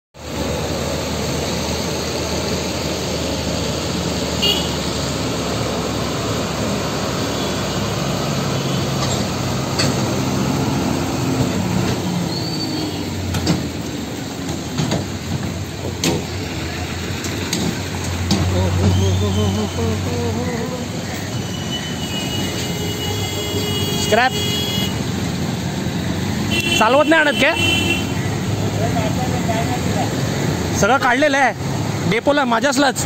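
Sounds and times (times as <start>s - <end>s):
street traffic: 0.1s - 33.0s
diesel truck engine running: 0.2s - 26.9s.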